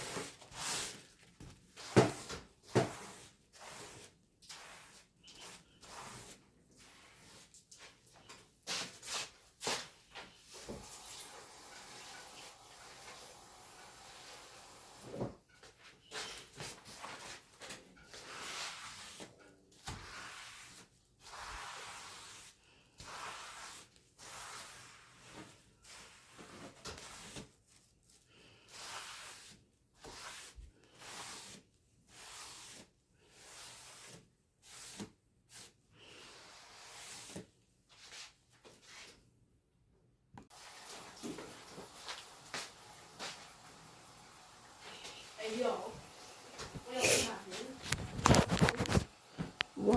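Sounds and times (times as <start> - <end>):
rubbing or scrubbing strokes: 0.0 - 27.6, 28.6 - 39.2, 44.8 - 49.9.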